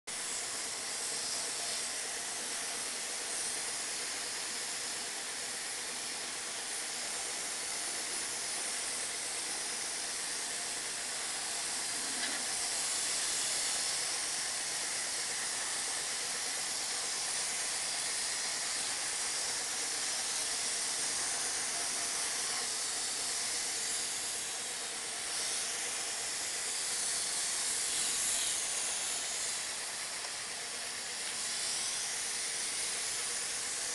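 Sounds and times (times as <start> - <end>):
oil spray hissing: 0.1 - 33.9.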